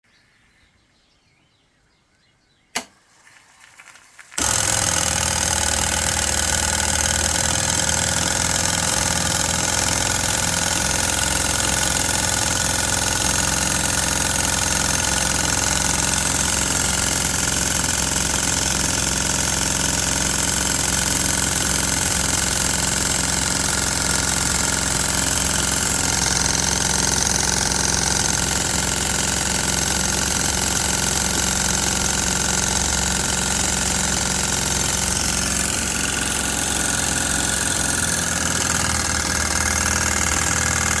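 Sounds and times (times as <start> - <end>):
steam pump running with hiss: 4.4 - 41.0.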